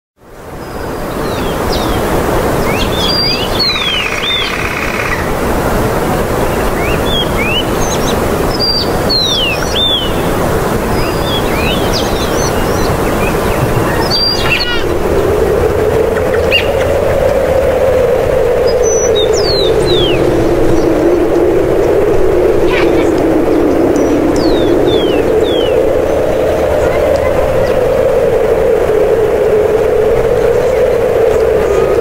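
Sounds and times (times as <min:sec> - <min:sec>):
steady rushing background noise: 0:00.3 - 0:32.0
birds chirping: 0:00.5 - 0:32.0.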